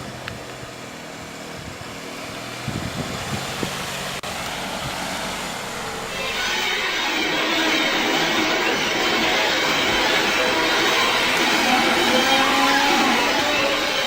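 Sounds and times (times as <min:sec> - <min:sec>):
car engine hum: 0:00.0 - 0:14.0
road noise: 0:00.0 - 0:14.0.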